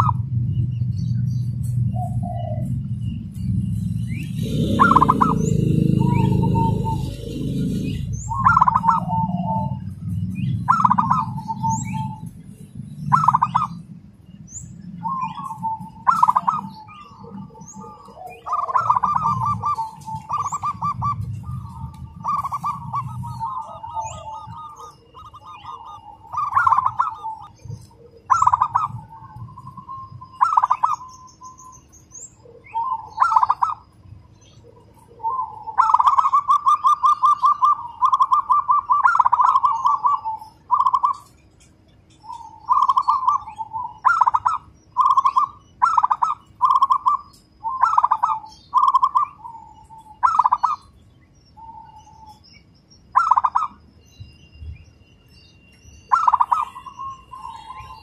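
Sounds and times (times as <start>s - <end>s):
dove cooing: 0.0s - 3.3s, 4.1s - 13.9s, 14.7s - 31.6s, 32.3s - 41.3s, 42.2s - 51.0s, 53.1s - 53.8s, 56.1s - 58.0s
faint high bird chirps: 0.0s - 58.0s.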